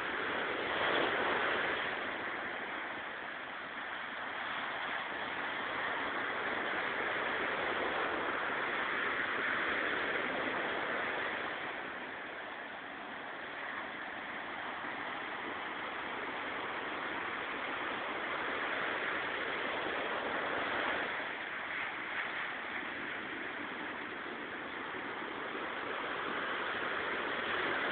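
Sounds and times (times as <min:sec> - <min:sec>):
sea waves breaking on shore: 0:00.0 - 0:27.9.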